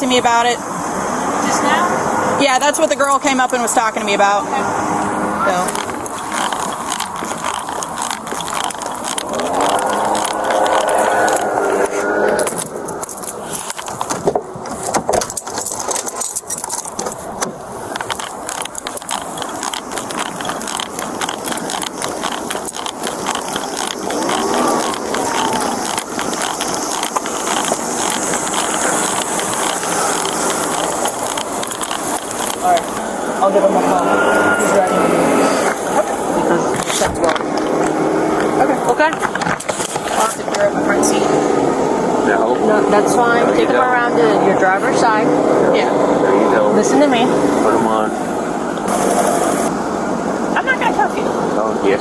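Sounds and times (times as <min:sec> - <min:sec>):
road traffic: 0:00.0 - 0:52.0.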